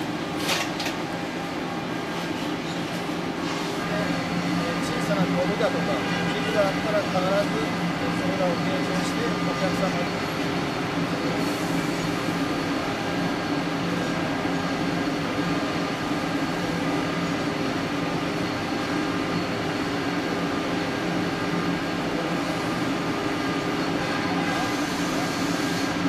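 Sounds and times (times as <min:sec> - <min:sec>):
machinery hum: 0:00.0 - 0:26.0.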